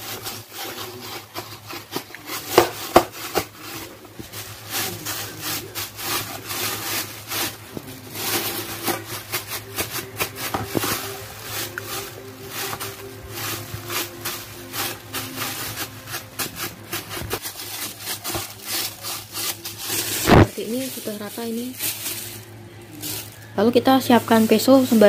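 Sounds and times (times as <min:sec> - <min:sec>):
hand rubbing dough in bowl: 0:00.0 - 0:25.0.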